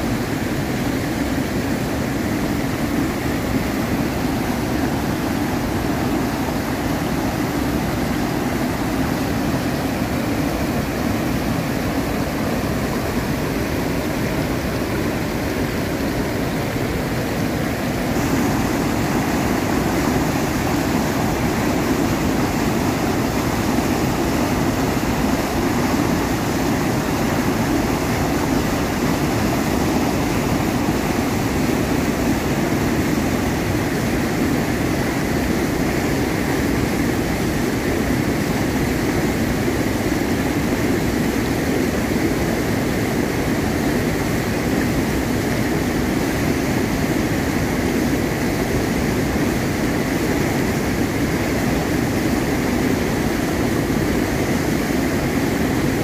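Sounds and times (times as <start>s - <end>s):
water rushing over dam spillway: 0.0s - 56.0s.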